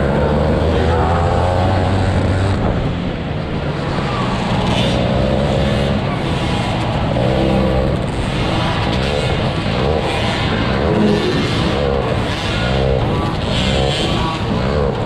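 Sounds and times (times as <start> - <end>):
two-stroke motocross bike engine revving: 0.0 - 15.0.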